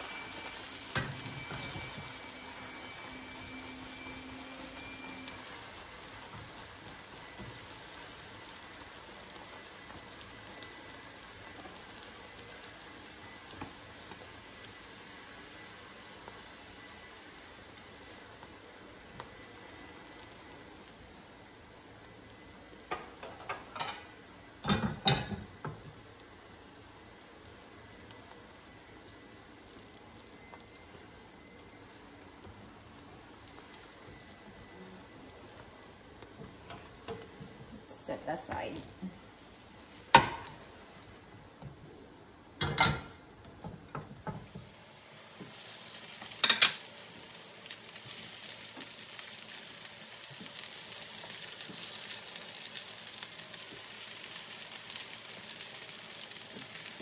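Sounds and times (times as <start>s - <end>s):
egg sizzling in a frying pan: 0.0s - 57.0s.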